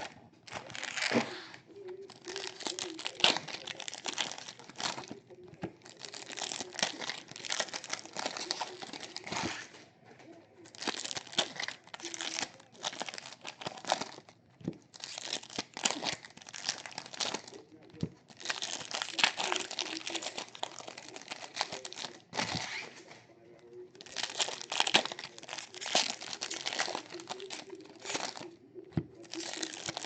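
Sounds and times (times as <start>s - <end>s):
wrappers crinkling and tearing: 0.0s - 30.0s.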